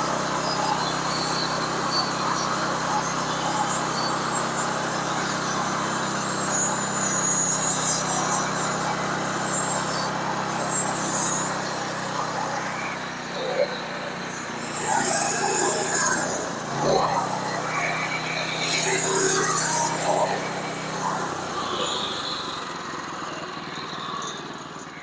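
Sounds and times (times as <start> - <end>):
sawmill engine running: 0.0 - 25.0.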